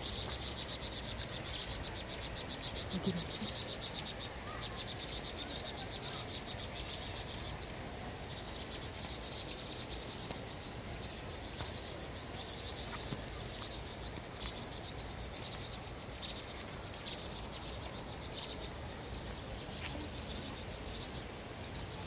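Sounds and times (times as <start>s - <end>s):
birds giving buzzy chattering alarm calls: 0.0s - 22.0s.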